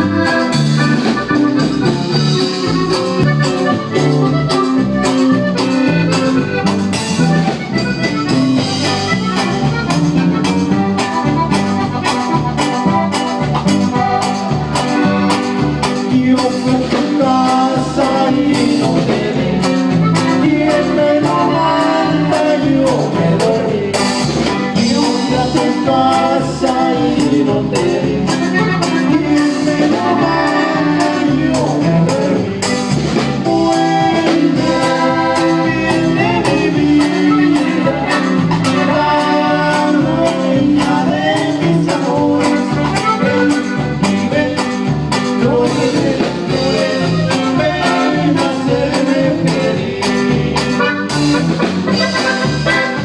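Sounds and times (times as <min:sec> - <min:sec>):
band playing with sung vocals: 0:00.0 - 0:53.0.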